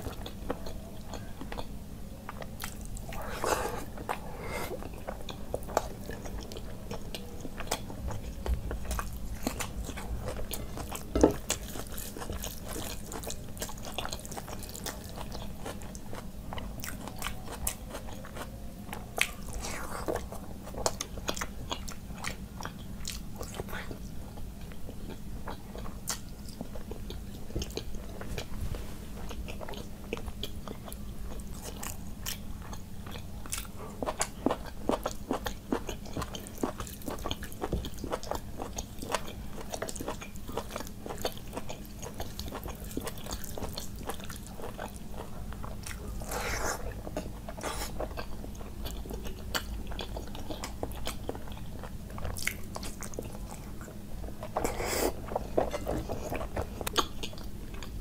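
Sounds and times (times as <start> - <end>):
person chewing with wet mouth sounds: 0.0 - 58.0.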